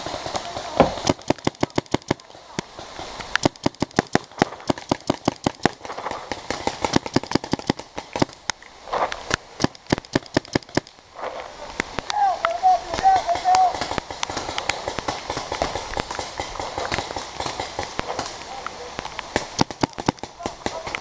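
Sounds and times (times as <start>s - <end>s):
paintball guns popping: 0.0s - 8.6s, 9.2s - 11.0s, 12.9s - 21.0s.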